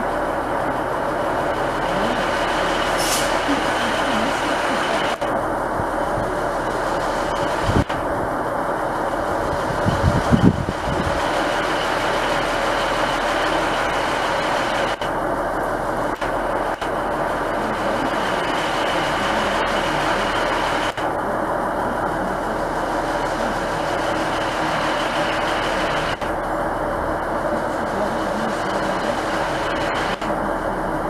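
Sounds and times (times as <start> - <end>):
thin steady whine: 0.0 - 31.0
train rumbling: 0.0 - 31.0.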